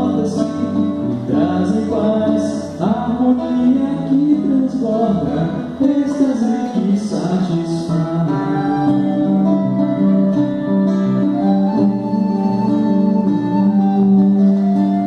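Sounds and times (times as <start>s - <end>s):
acoustic guitar chords: 0.0s - 15.0s
person singing: 0.0s - 15.0s.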